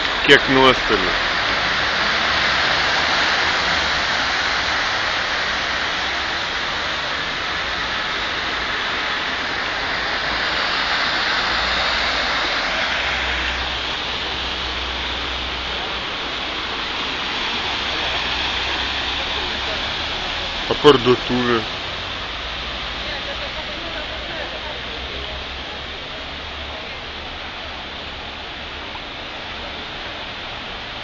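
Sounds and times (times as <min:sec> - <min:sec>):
floodwater rushing and splashing: 0:00.0 - 0:31.0.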